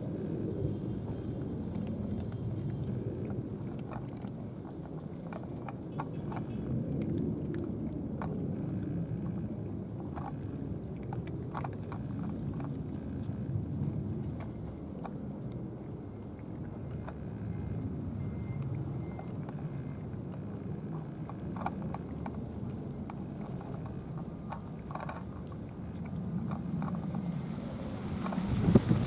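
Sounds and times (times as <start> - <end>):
cats crunching dry kibble: 0.0 - 29.0
steady low rumble: 0.0 - 29.0.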